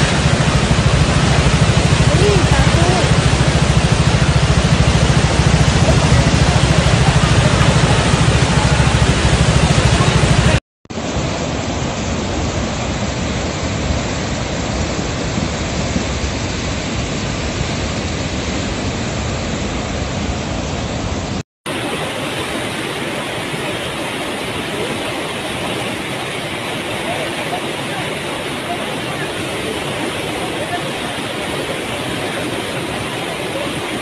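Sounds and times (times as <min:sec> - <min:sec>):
floodwater rushing: 0:00.0 - 0:34.0.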